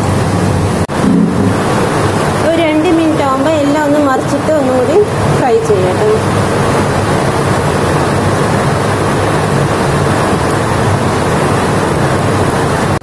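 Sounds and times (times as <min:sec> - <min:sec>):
heavy rain: 0:00.0 - 0:13.0
oil sizzling while deep-frying: 0:01.5 - 0:13.0.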